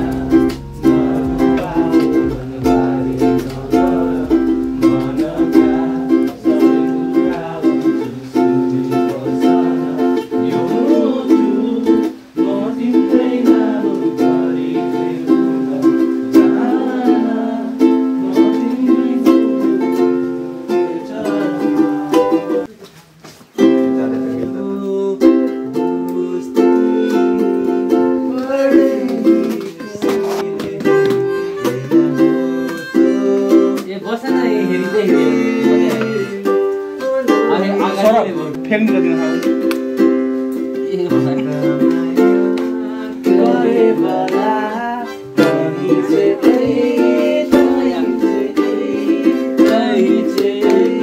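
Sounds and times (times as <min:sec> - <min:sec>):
ukulele strumming chords: 0:00.0 - 0:22.7, 0:23.6 - 0:51.0.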